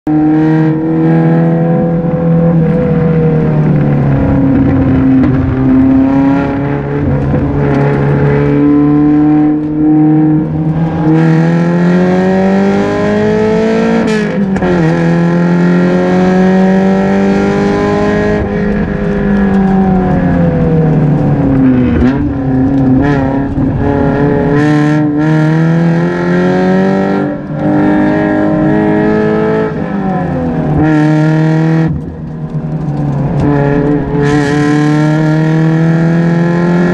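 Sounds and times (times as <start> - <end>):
race car engine revving: 0.1 - 36.9.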